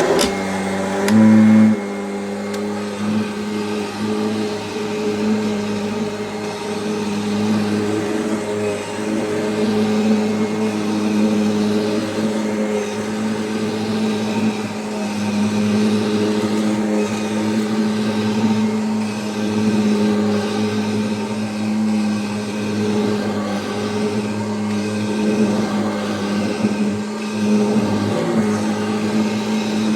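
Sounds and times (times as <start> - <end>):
vacuum cleaner motor hum: 0.0 - 29.9.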